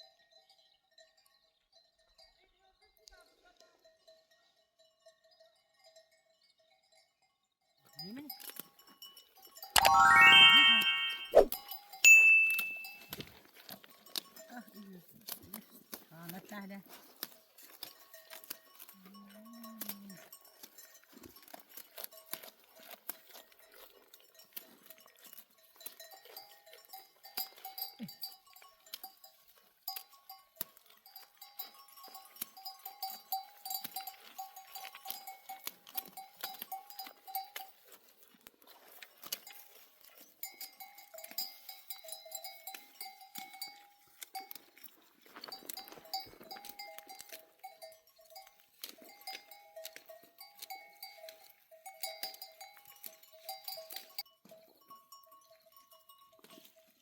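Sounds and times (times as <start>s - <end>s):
sheep bells clinking: 0.0s - 57.0s.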